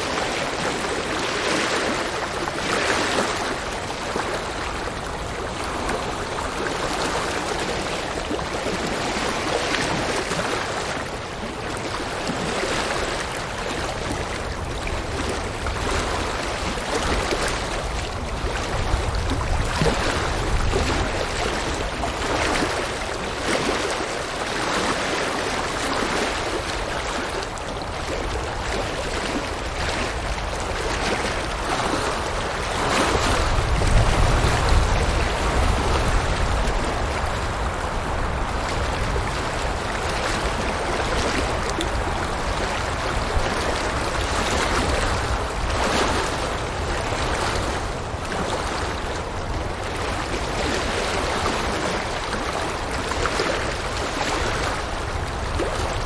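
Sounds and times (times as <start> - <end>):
deep water rumble: 0.0 - 56.0
river rushing over rocks: 0.0 - 56.0.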